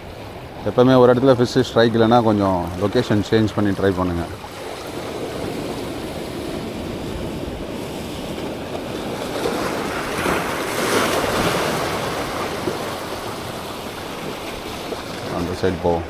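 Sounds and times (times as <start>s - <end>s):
sea waves washing in: 0.0s - 16.0s
wind buffeting microphone: 0.0s - 16.0s.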